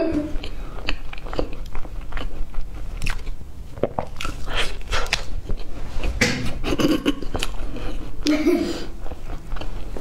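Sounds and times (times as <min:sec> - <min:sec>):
person chewing pastry: 0:00.3 - 0:10.0.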